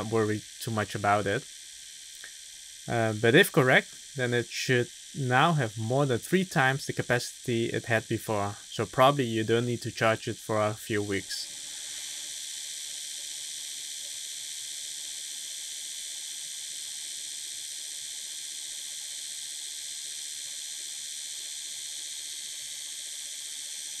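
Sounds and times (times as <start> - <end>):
electric toothbrush buzzing: 0.0 - 6.3, 10.0 - 24.0.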